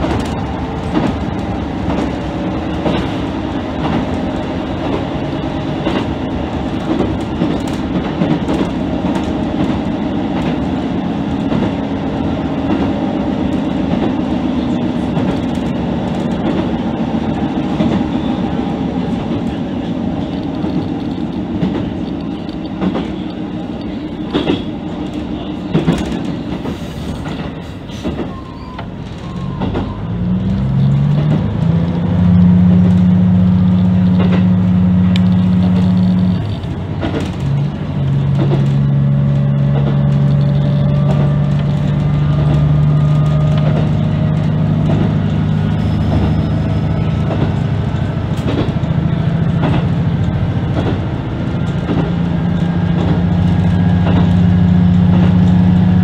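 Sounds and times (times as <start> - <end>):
diesel engine drone: 0.0 - 56.0
wheels clicking over rail joints: 0.0 - 56.0.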